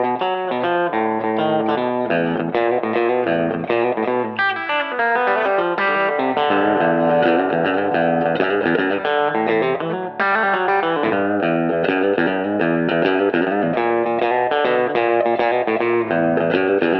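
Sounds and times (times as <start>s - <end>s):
electric guitar single-note lines: 0.0s - 16.9s.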